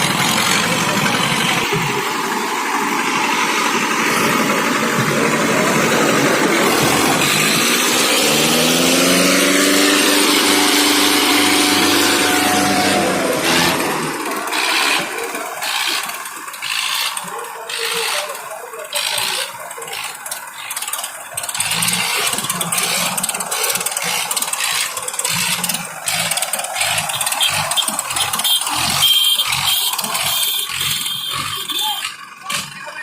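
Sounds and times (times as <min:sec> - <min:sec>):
tractor diesel engines running: 0:00.0 - 0:33.0.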